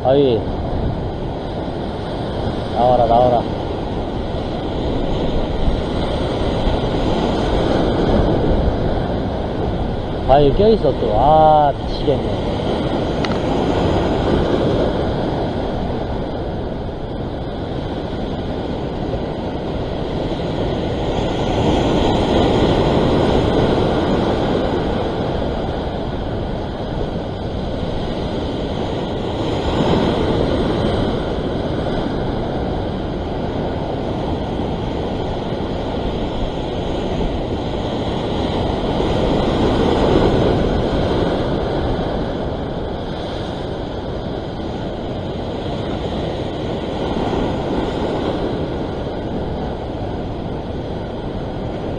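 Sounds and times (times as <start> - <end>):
ocean surf against rocks: 0.0 - 51.9
wind buffeting microphone: 0.0 - 51.9.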